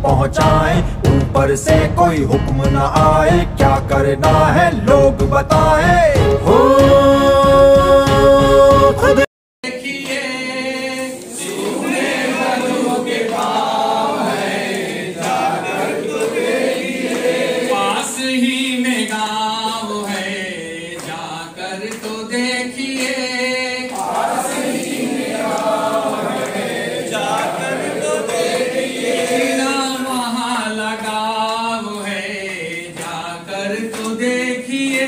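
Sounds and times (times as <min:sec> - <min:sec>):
group of voices singing: 0:00.0 - 0:35.0.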